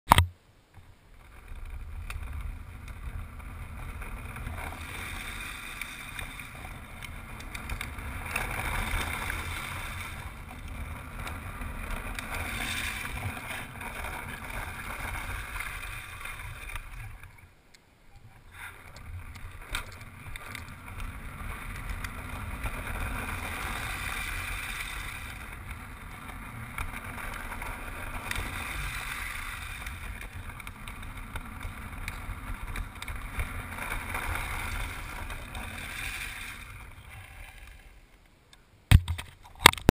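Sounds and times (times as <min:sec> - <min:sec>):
wheels scraping on asphalt: 0:00.7 - 0:38.4.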